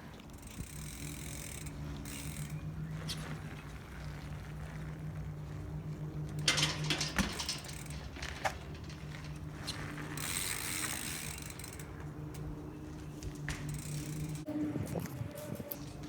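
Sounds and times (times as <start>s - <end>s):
bike freehub ratchet buzzing: 0.1s - 14.5s.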